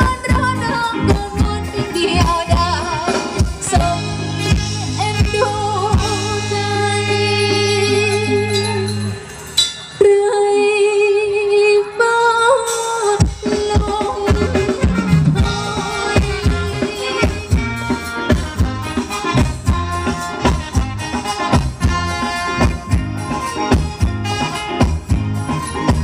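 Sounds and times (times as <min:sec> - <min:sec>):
drums with steady beat: 0:00.0 - 0:10.4, 0:12.6 - 0:26.0.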